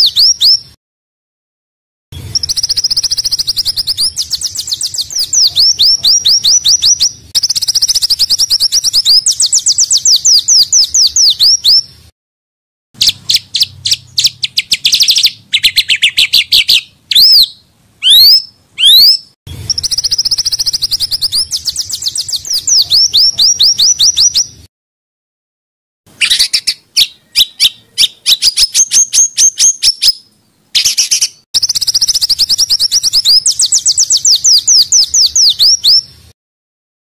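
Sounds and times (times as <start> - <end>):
songbird trilling: 0.0 - 0.7, 2.2 - 11.9, 13.0 - 24.6, 26.1 - 36.1
rising bird whistles: 0.0 - 0.8, 2.2 - 11.9, 13.0 - 24.7, 26.2 - 36.1.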